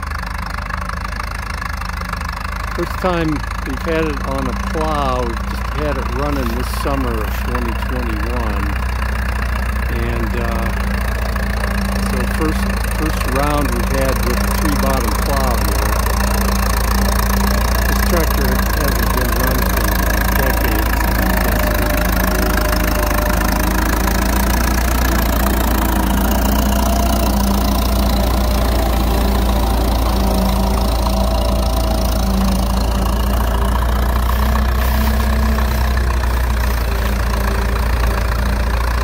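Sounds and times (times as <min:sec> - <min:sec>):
tractor engine running under load: 0:00.0 - 0:39.0.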